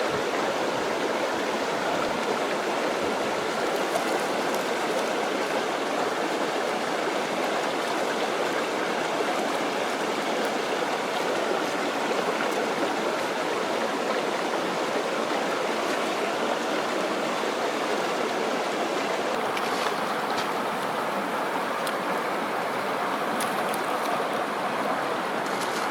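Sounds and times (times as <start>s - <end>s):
stream rushing over rocks: 0.0s - 25.9s.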